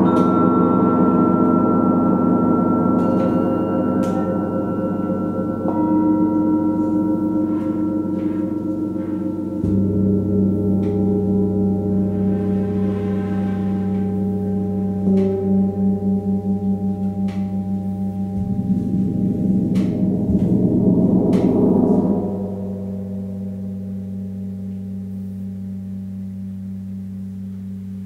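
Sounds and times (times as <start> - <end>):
suspended gongs ringing: 0.0 - 28.0.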